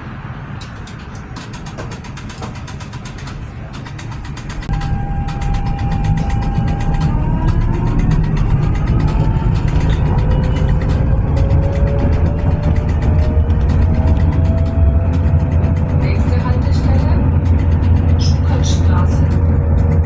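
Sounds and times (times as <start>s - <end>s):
tram motor whine: 0.0s - 20.0s
tram rumble: 0.0s - 20.0s.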